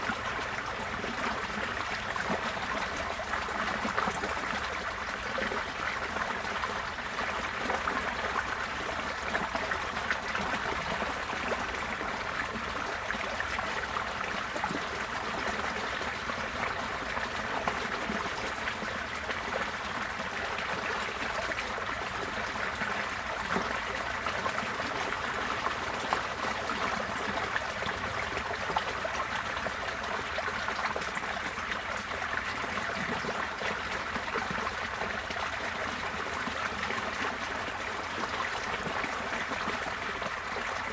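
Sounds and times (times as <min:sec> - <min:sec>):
floodwater flowing and trickling: 0:00.0 - 0:40.9.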